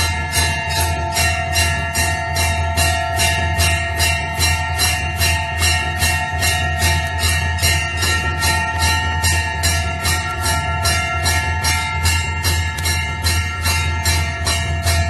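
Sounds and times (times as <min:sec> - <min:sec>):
temple bell ringing rapidly: 0:00.0 - 0:15.0.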